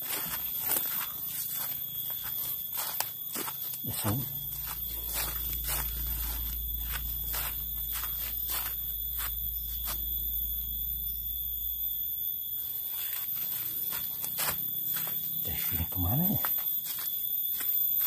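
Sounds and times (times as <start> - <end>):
footsteps crunching through dry leaves: 0.0 - 10.4, 12.6 - 18.0
forest insects droning: 0.0 - 18.0.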